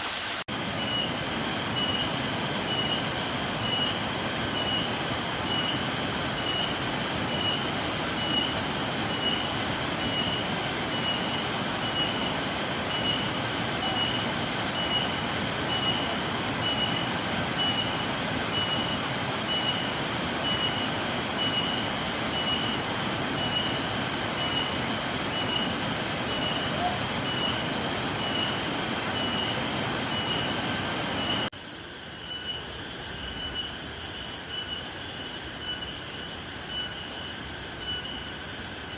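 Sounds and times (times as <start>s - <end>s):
cicadas pulsing: 0.0s - 38.9s.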